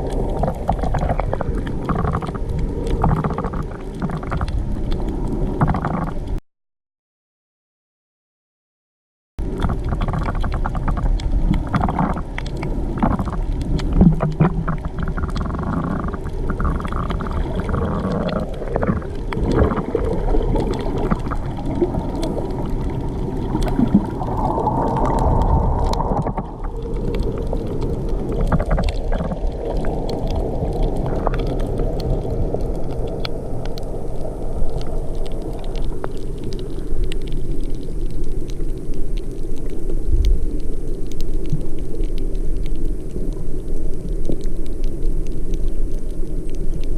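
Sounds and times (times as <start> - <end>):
underwater clicks: 0.0 - 6.4, 9.4 - 46.9
underwater rumble and gurgling: 0.0 - 6.4, 9.4 - 46.9.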